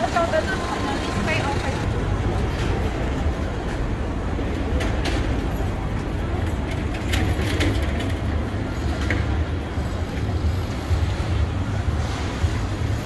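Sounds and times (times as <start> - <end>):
crowd noise: 0.0 - 13.0
traffic rumble: 0.0 - 13.0.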